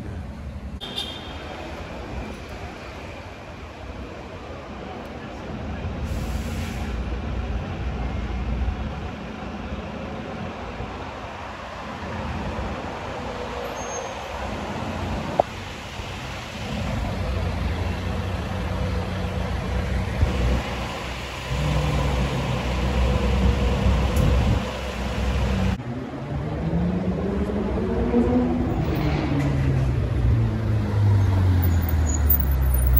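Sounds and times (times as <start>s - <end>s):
vehicle engines rumbling: 0.0s - 32.9s.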